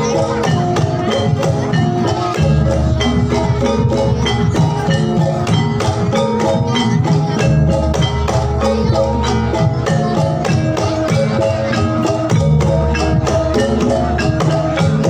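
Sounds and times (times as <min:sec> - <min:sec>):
gamelan music over sound system: 0:00.0 - 0:15.0.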